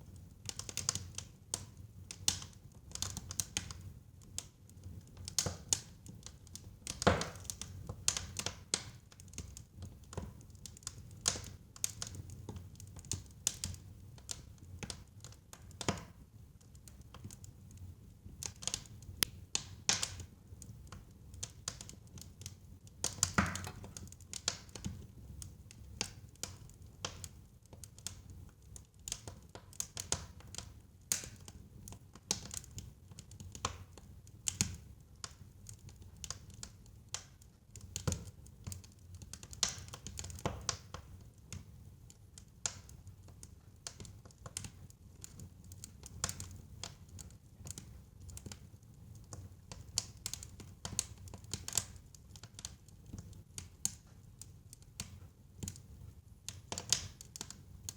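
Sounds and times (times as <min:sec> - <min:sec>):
wood fire crackling in a fireplace: 0:00.0 - 0:57.9.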